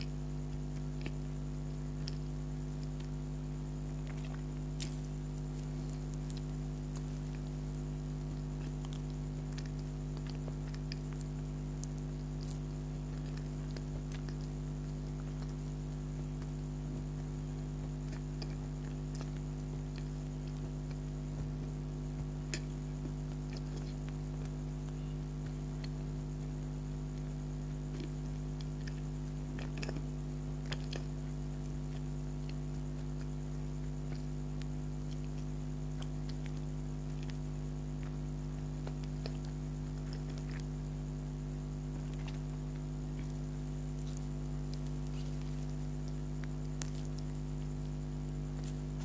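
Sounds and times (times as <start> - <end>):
low electrical hum: 0.0 - 49.0
person chewing: 0.0 - 49.0.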